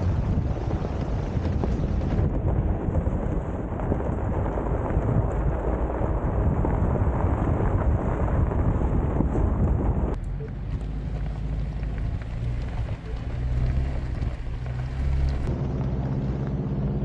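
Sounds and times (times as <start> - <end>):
wind buffeting microphone: 0.0 - 15.5
tyres rolling on gravel road: 0.0 - 16.2.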